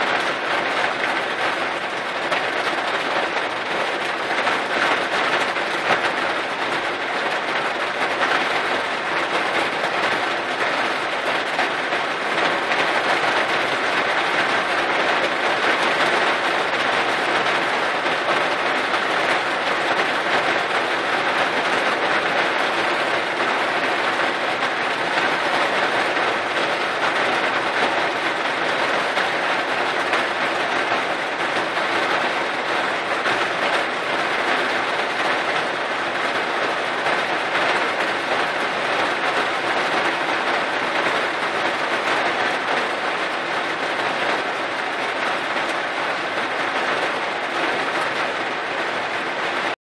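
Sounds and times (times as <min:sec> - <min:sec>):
heavy rain on car roof: 0:00.0 - 0:49.8.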